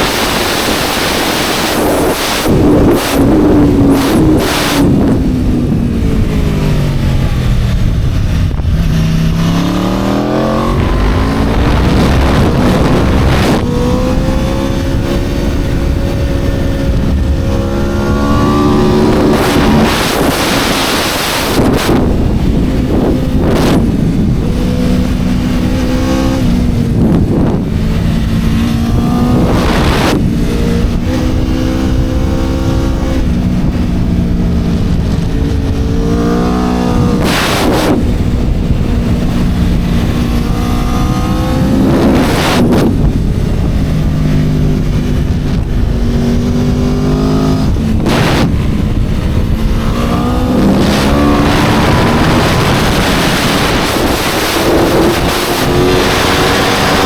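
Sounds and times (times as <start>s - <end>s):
motorcycle engine revving through gears: 0.0s - 57.0s
rush of wind: 0.0s - 57.0s.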